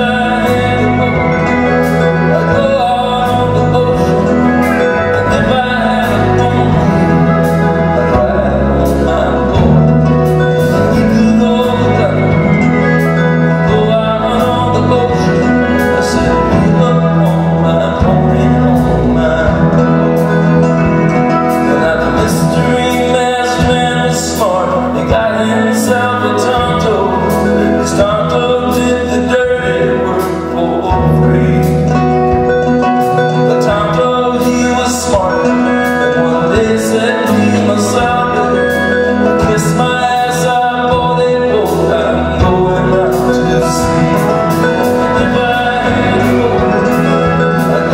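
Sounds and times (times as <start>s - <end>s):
live band playing acoustic song: 0.0s - 47.9s
person singing: 0.0s - 47.9s.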